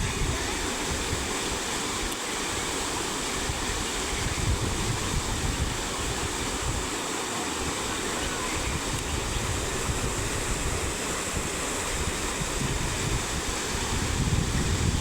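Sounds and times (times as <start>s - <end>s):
fast-flowing floodwater rushing: 0.0s - 15.0s
wind buffeting microphone: 0.0s - 15.0s.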